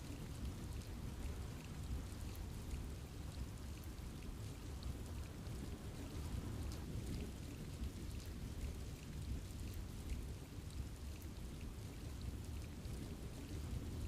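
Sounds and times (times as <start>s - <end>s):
small raindrop ticks: 0.0s - 14.0s
steady rain falling: 0.0s - 14.0s.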